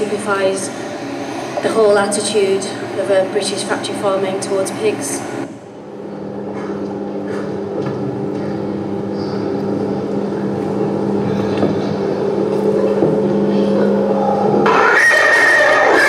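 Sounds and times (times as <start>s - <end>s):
low drone over speakers: 0.0s - 16.0s.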